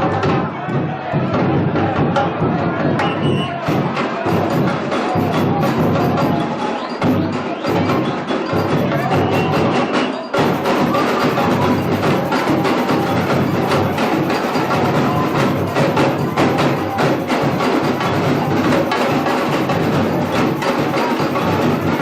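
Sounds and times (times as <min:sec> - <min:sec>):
samba drums: 0:00.0 - 0:22.0
clicking hand percussion: 0:03.0 - 0:22.0.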